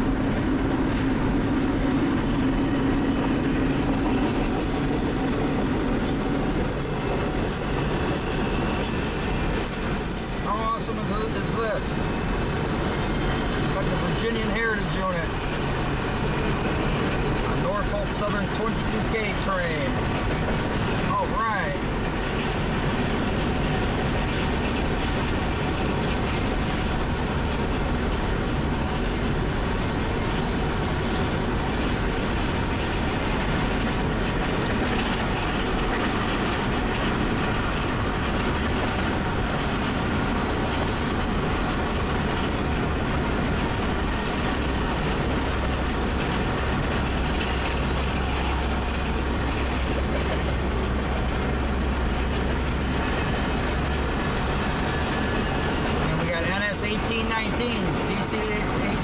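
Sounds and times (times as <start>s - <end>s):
car road noise: 0.0s - 59.0s
diesel locomotive rumble: 0.0s - 59.0s.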